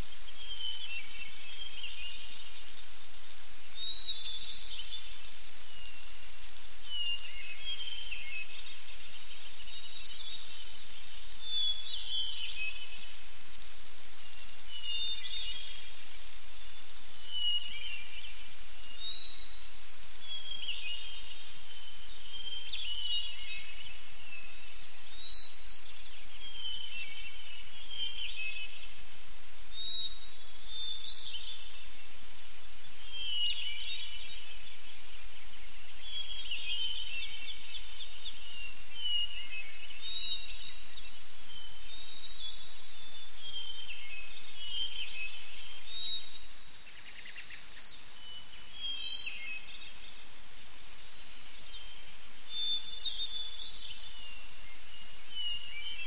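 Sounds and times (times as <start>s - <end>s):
songbirds chirping: 0.0s - 56.0s
steady background hiss: 0.0s - 56.0s.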